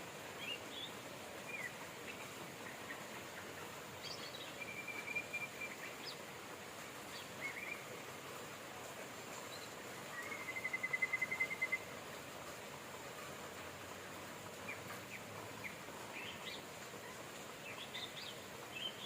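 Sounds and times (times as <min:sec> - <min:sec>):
rain hiss: 0:00.0 - 0:19.0
songbirds chirping: 0:00.0 - 0:19.0.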